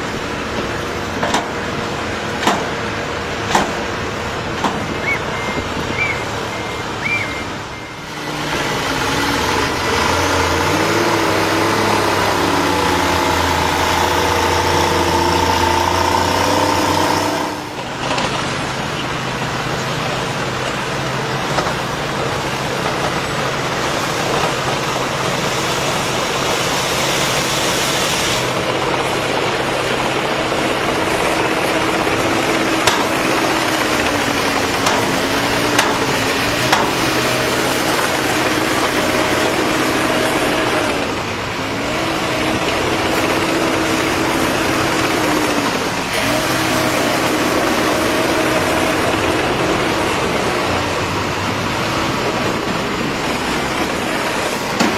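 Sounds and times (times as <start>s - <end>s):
heavy vehicle engines droning: 0.0s - 54.9s.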